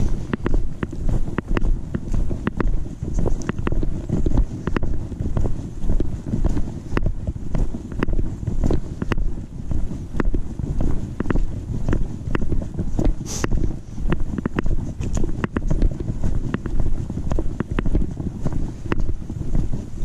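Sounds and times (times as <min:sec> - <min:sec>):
camera knocking with footsteps: 0:00.0 - 0:20.0
wind rumble on camera: 0:00.0 - 0:20.0.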